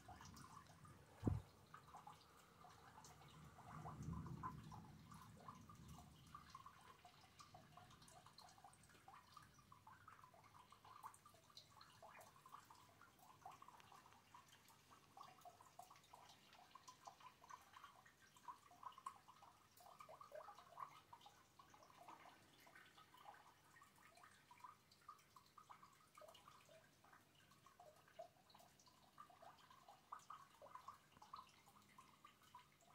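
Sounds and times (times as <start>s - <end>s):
faint rain: 0.0s - 32.9s.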